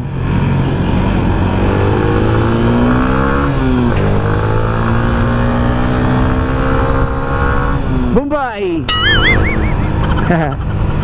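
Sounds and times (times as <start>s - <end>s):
motorcycle engine accelerating: 0.2s - 8.0s, 8.9s - 11.0s.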